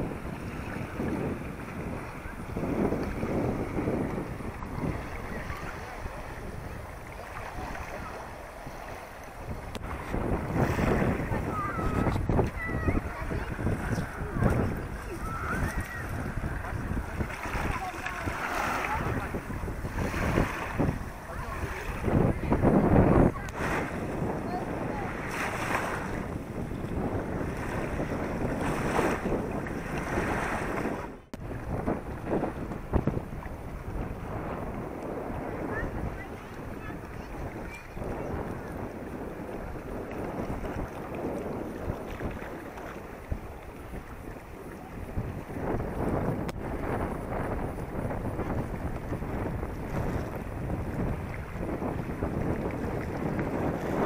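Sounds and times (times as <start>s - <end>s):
waves washing onto shore: 0.0s - 54.0s
wind buffeting microphone: 0.0s - 54.0s.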